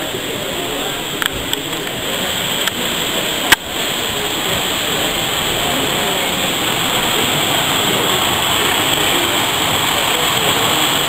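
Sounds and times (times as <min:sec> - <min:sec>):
model trains running on track: 0:00.0 - 0:11.0.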